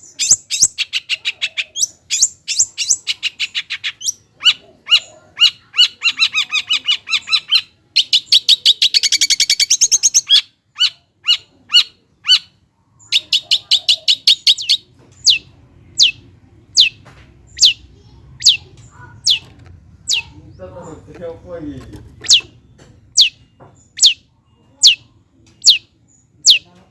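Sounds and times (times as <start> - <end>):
bird trill: 0.0 - 21.6, 22.2 - 26.7.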